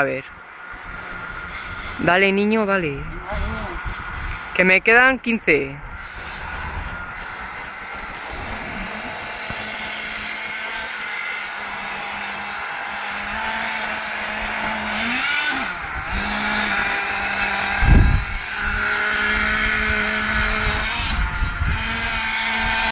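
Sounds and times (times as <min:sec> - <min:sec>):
small engine whining at high revs: 0:00.0 - 0:22.9.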